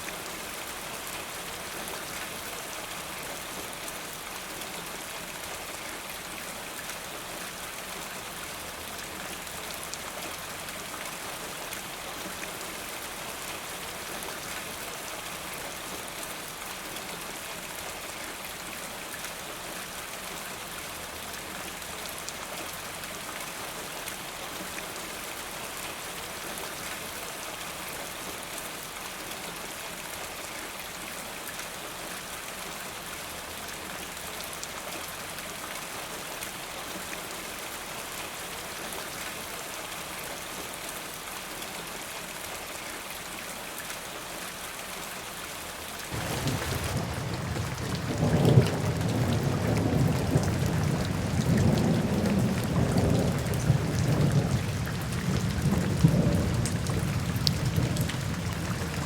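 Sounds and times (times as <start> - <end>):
rain falling in a forest: 0.0 - 59.0.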